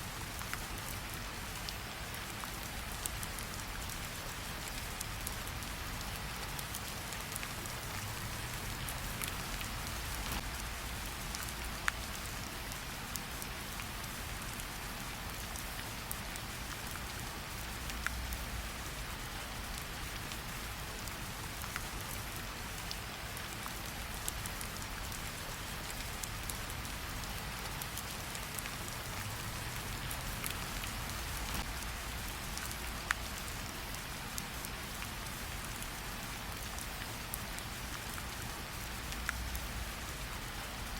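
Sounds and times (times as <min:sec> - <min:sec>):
campfire crackles: 0:00.0 - 0:40.9
steady rain falling: 0:00.0 - 0:40.9.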